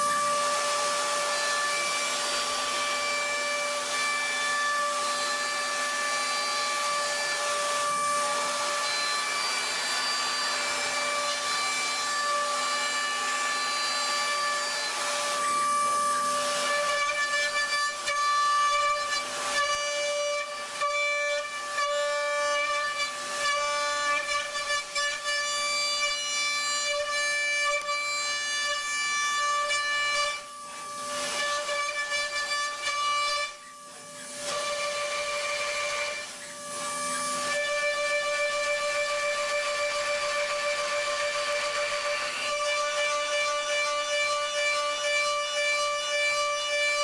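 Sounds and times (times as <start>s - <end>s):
milling cutter whining: 0.0s - 43.7s.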